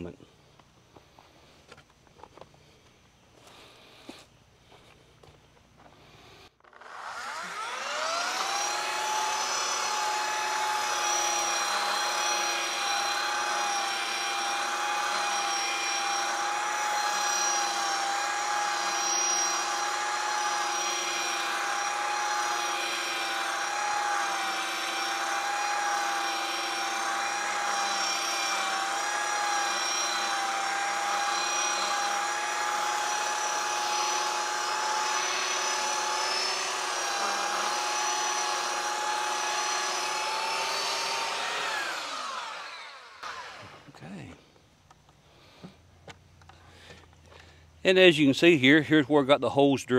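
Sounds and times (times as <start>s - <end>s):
electric sander whining: 0.0s - 44.6s.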